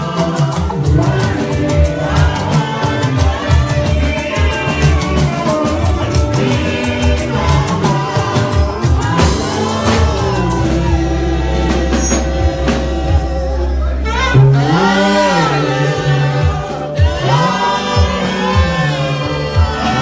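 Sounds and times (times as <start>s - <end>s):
regular drum beat: 0.0s - 13.6s, 14.4s - 20.0s
band playing: 0.0s - 20.0s
people singing worship music: 0.0s - 20.0s
steady bass notes: 0.0s - 20.0s.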